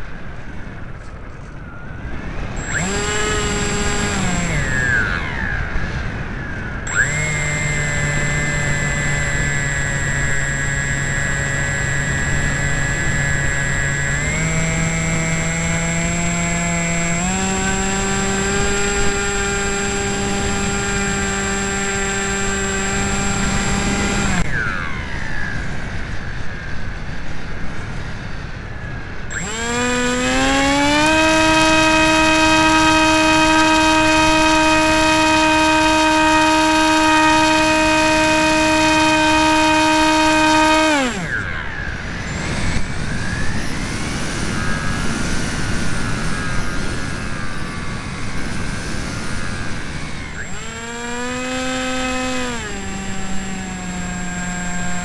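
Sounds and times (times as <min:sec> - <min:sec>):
wind rushing past plane: 0:00.0 - 0:39.2, 0:41.0 - 0:55.0
electric motor and propeller whine: 0:00.0 - 0:55.0.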